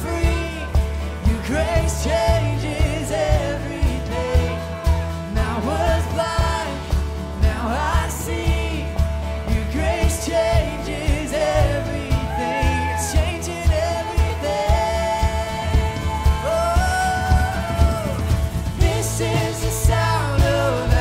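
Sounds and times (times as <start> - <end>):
bass line: 0.0 - 21.0
drum beat: 0.0 - 21.0
man singing lead: 0.0 - 21.0
strummed acoustic guitar: 0.0 - 21.0.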